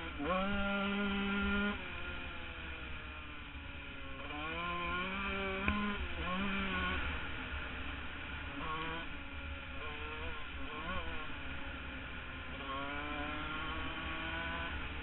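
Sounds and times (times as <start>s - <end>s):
motocross engine revving: 0.0s - 2.9s, 4.0s - 7.2s, 8.5s - 15.0s.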